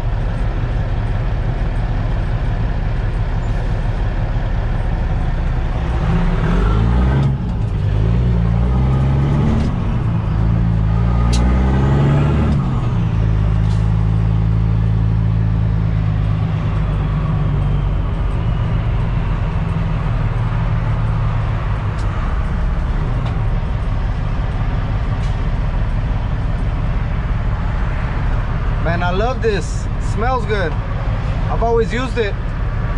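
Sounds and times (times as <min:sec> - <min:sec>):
diesel truck engine accelerating: 0:00.0 - 0:32.9.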